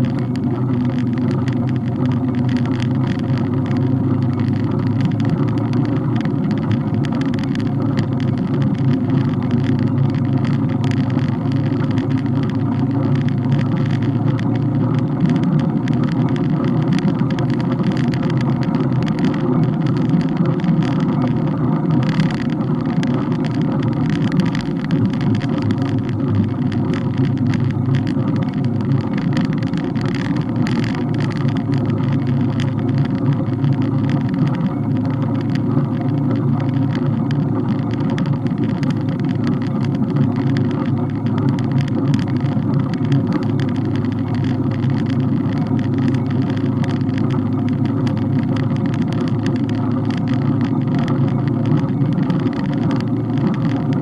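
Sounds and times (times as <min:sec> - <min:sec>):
road noise: 0:00.0 - 0:54.0
small clicks and rattles: 0:00.0 - 0:54.0
wind rumble: 0:00.0 - 0:54.0.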